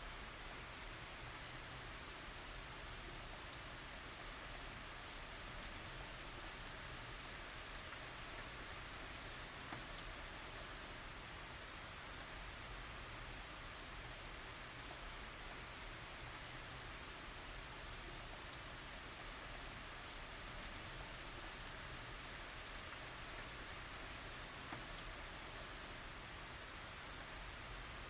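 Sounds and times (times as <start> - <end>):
soft rain falling: 0.0 - 28.0.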